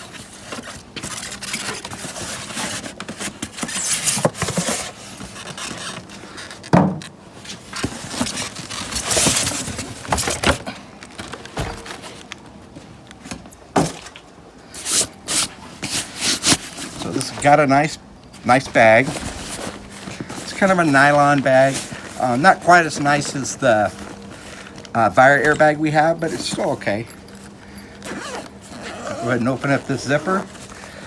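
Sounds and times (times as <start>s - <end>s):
cardboard rustling and scraping: 0.0s - 31.0s.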